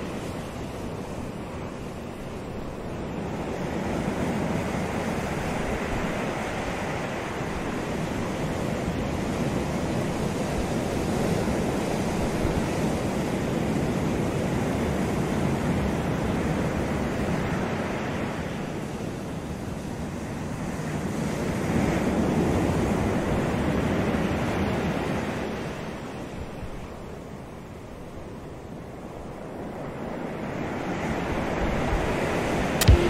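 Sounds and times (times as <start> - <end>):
waves breaking on beach: 0.0 - 33.0.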